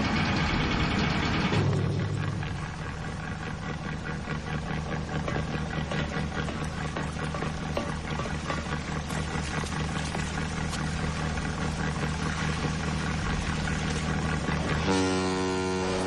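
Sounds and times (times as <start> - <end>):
ship engine droning: 0.0 - 16.0.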